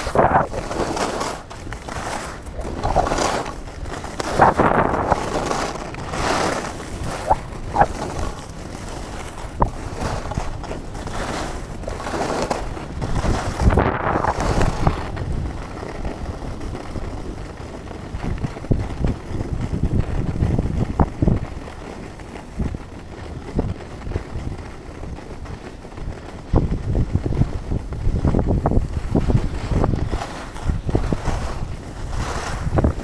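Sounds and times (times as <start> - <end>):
skis scraping on snow: 0.0 - 33.0
wind rumble on microphone: 0.0 - 33.0.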